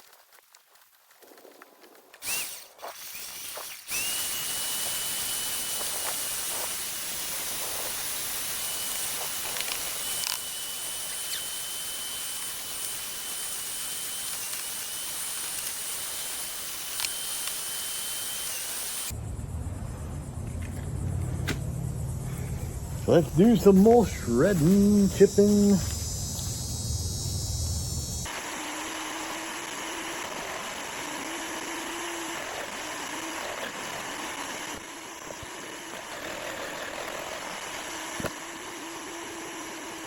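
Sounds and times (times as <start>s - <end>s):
wood chipper motor whining: 2.2s - 40.0s.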